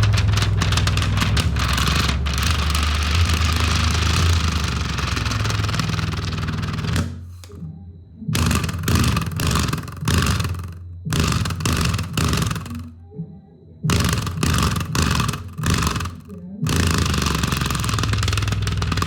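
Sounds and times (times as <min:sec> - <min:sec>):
paper buzzing and rattling: 0:00.0 - 0:07.6, 0:08.4 - 0:12.9, 0:13.9 - 0:19.0.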